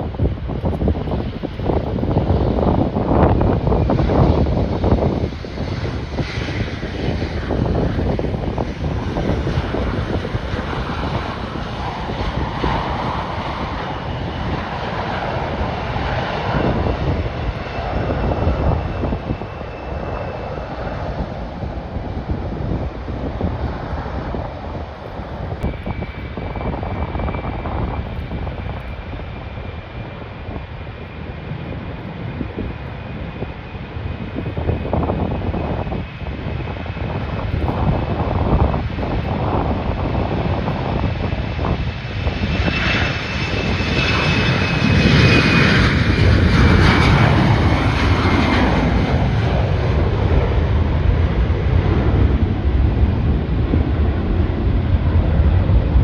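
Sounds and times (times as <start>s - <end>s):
airliner engines rumbling: 0.0s - 56.0s.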